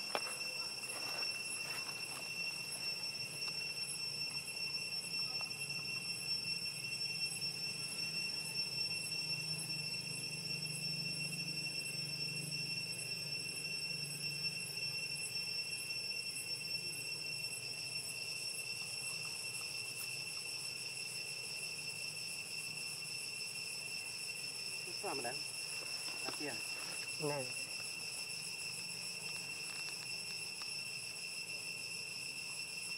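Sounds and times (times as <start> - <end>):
insects droning: 0.0 - 32.9
pulsing insect call: 0.0 - 32.9.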